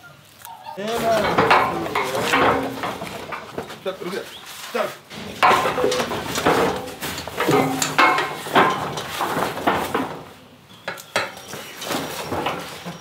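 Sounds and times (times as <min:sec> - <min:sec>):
bull clanking metal frame: 0:00.8 - 0:13.0.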